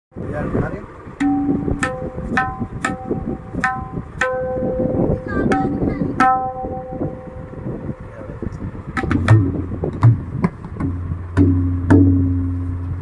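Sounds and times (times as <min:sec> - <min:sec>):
tabla drum strokes ringing: 0:01.2 - 0:08.1, 0:09.0 - 0:13.0.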